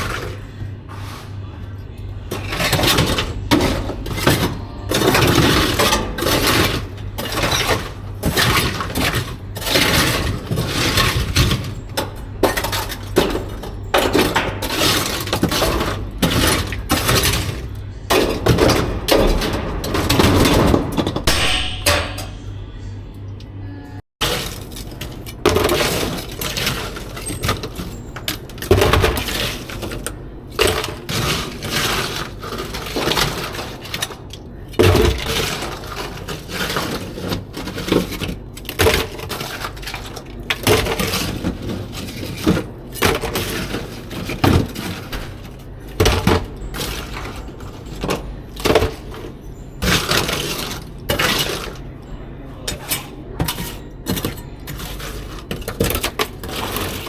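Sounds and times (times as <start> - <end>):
hard objects clattering: 0.0 - 22.6, 24.2 - 57.0.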